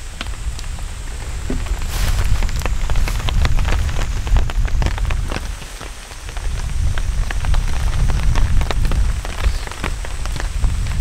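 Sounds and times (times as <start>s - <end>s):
raindrops ticking on tent: 0.0s - 11.0s
wind buffeting microphone: 0.0s - 11.0s.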